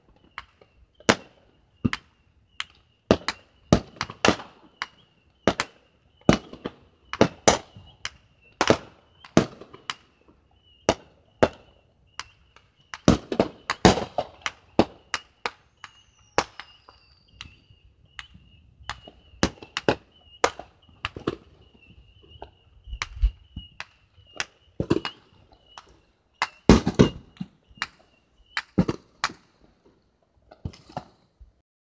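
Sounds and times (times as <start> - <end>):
fireworks bangs: 2.6 - 29.5.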